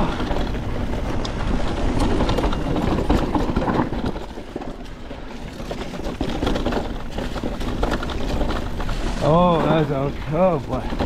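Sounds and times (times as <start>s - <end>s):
bike clattering over bumps: 0.0s - 11.0s
bike tyres rolling over dirt: 0.0s - 11.0s.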